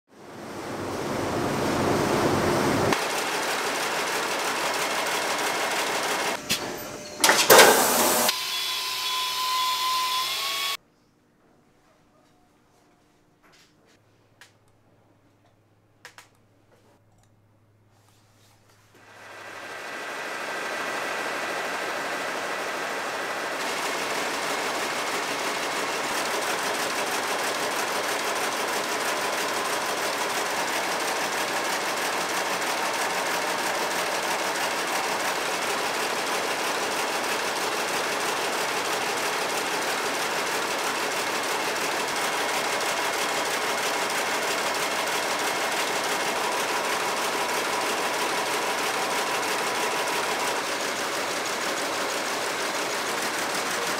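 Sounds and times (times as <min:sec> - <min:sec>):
power looms clattering: 0:00.4 - 0:10.8, 0:19.1 - 0:53.9.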